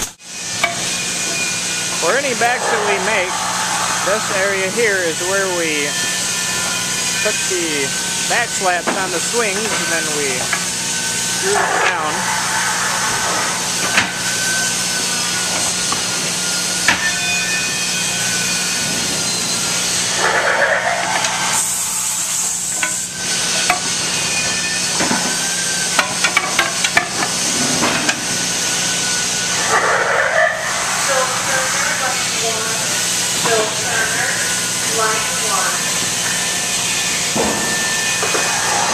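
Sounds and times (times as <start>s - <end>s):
factory hum and hiss: 0.0s - 38.9s.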